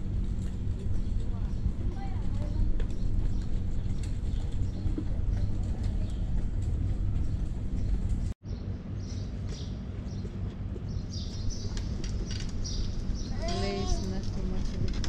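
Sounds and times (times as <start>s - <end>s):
faint clatter: 0.0s - 8.4s, 9.4s - 15.0s
low street rumble: 0.0s - 15.0s
small birds chirping: 0.6s - 15.0s.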